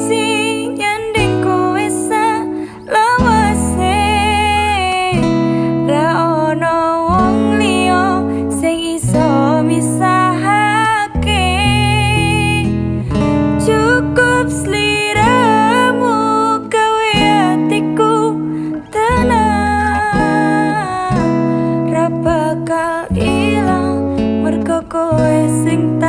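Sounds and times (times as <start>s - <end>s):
guitar accompaniment: 0.0s - 26.0s
person singing: 0.0s - 26.0s.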